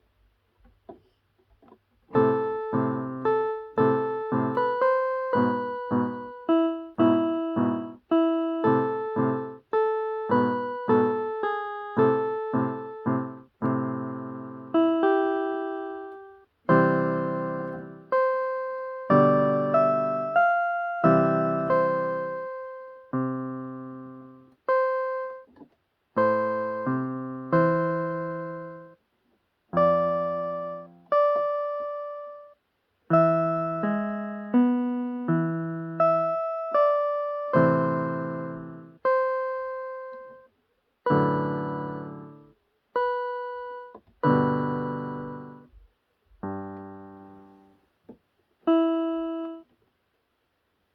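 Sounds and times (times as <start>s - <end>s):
slow piano piece: 2.1s - 25.5s, 26.2s - 29.0s, 29.7s - 40.5s, 41.1s - 47.8s, 48.7s - 49.7s.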